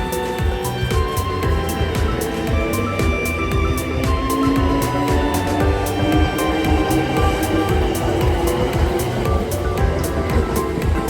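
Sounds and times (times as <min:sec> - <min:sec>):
low rumble of passing train: 0:00.0 - 0:11.0.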